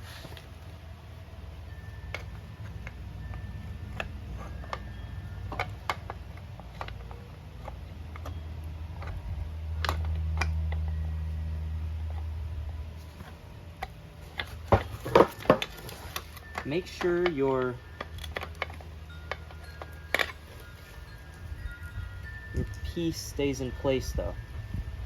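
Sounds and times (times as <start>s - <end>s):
steady low hum: 0.0s - 25.0s
small metal parts clicking: 2.0s - 11.3s, 13.2s - 24.6s.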